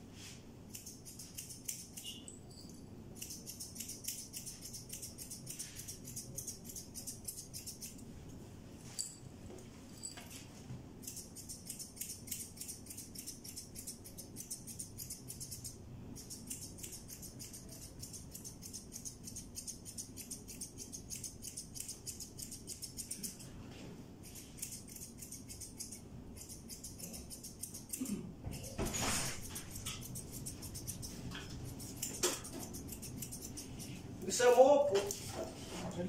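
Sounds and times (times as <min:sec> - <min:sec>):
scissors snipping fur: 0:00.7 - 0:02.2, 0:03.2 - 0:08.0, 0:11.0 - 0:23.5, 0:24.2 - 0:35.2.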